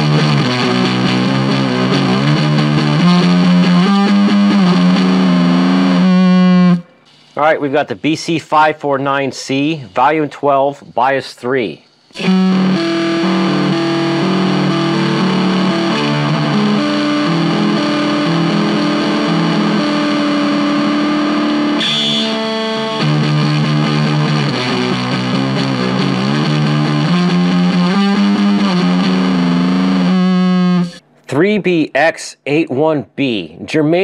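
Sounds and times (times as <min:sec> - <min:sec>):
distorted fuzz electric guitar: 0:00.0 - 0:08.2, 0:12.0 - 0:31.0.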